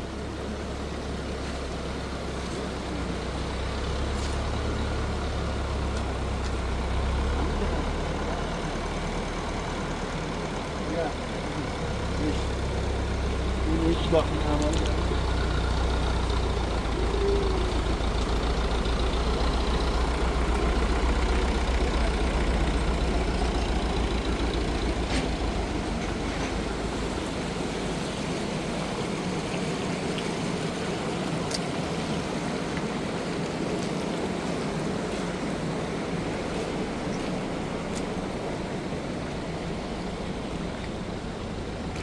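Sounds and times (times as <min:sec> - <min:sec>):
engine rumbling: 0:00.0 - 0:42.0.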